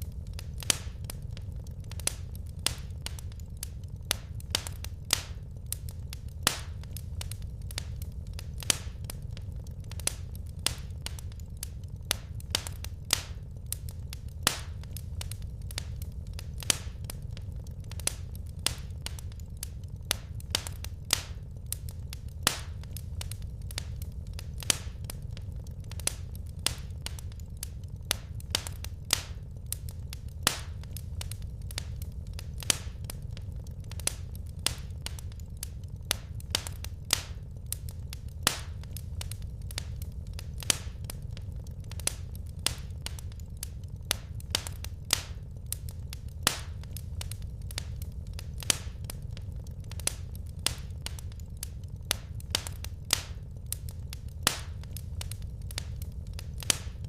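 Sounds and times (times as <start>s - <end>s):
low rumble: 0.0s - 57.0s
wood fire crackling: 0.0s - 57.0s.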